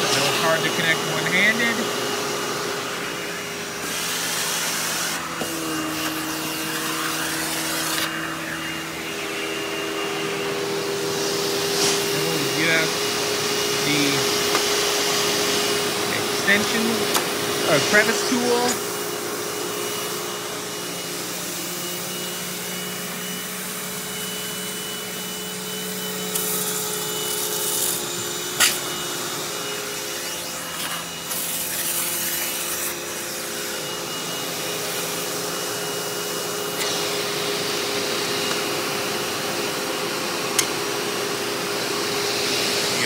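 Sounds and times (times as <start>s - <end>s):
vacuum cleaner motor whining: 0.0s - 43.0s.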